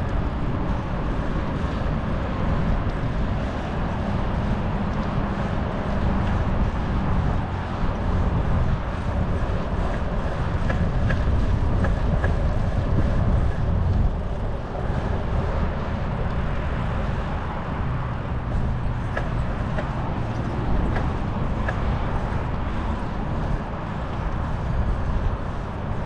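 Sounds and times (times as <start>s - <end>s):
bicycle road rumble: 0.0s - 26.0s
wind buffeting microphone: 0.0s - 26.0s.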